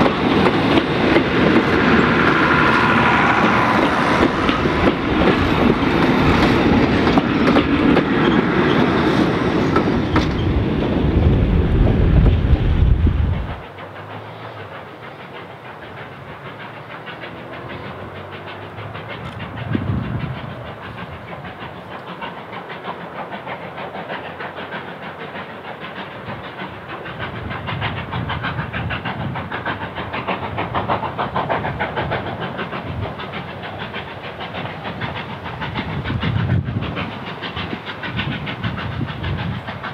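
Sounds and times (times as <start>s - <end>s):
distant steam locomotive exhaust: 0.0s - 39.9s
train carriages rumbling past: 0.0s - 39.9s.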